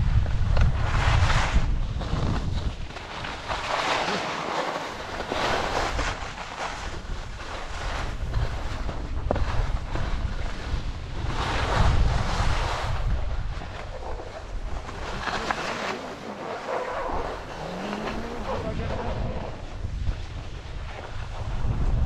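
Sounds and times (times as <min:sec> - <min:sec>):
wind rumbling on microphone: 0:00.0 - 0:22.0
skis scraping on packed snow: 0:00.2 - 0:22.0.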